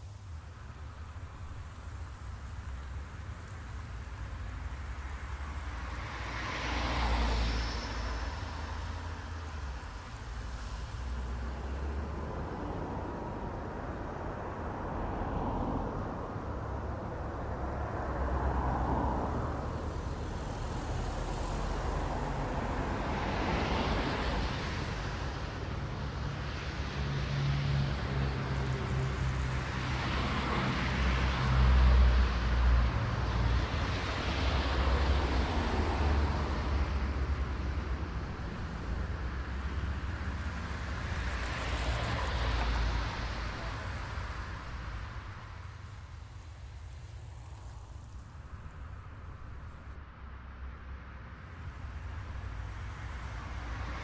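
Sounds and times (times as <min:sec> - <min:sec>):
cars passing: 0:00.0 - 0:54.0
low rumble of engines and tyres: 0:00.0 - 0:54.0.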